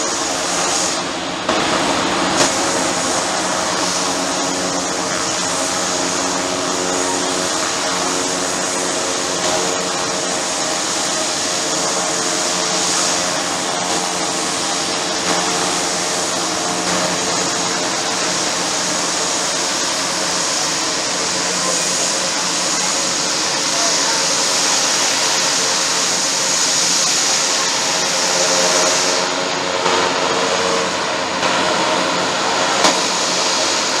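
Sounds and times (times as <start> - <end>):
helicopter engines and rotors: 0.0 - 34.0.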